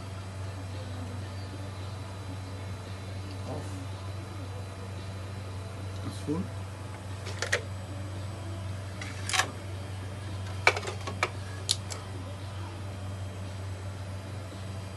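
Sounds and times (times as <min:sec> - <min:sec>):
coffee maker humming: 0:00.0 - 0:14.9.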